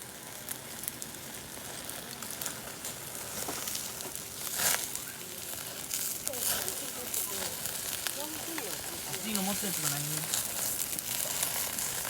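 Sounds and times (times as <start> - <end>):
chicken sizzling: 0.0 - 12.0.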